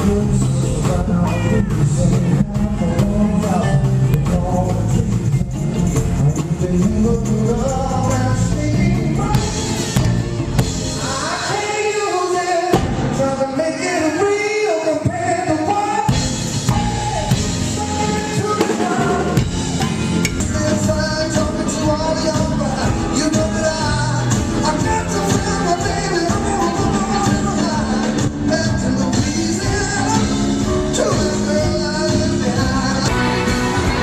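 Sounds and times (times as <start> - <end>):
band music with singing: 0.0 - 34.0.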